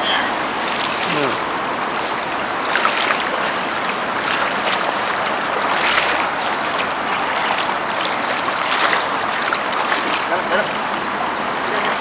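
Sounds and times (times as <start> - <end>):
shallow river water rushing: 0.0 - 12.0
water splashing: 0.0 - 12.0.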